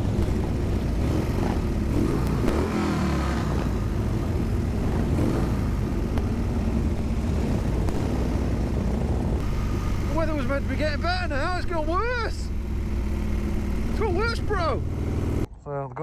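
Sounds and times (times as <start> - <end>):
motorcycle engine running: 0.0 - 15.5
wind and road noise: 0.0 - 15.5.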